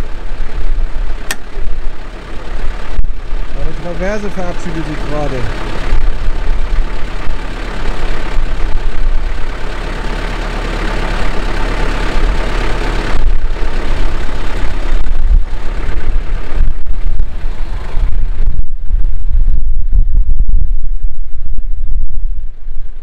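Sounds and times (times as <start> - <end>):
truck engine idling: 0.0 - 19.1.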